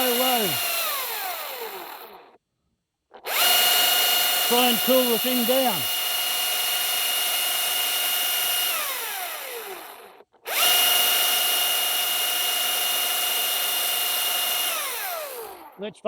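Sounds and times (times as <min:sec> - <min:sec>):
electric chainsaw whine: 0:00.0 - 0:02.3, 0:03.2 - 0:15.8.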